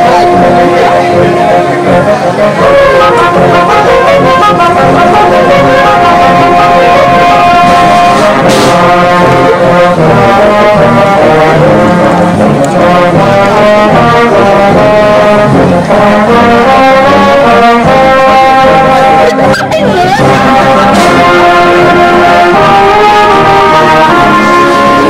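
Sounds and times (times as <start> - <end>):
brass horns playing melody: 0.0 - 25.0.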